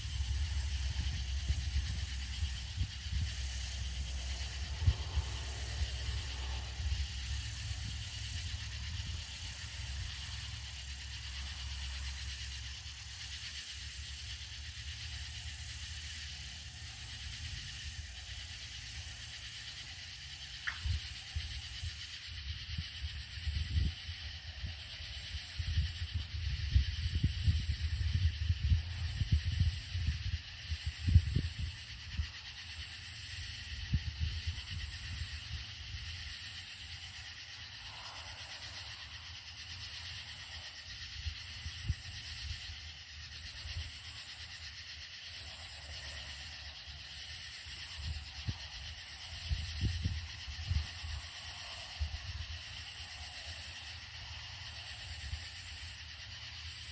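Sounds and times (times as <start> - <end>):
cicadas pulsing buzz: 0.0 - 56.9
steady hiss: 0.0 - 56.9
wind rumble on microphone: 0.0 - 56.9.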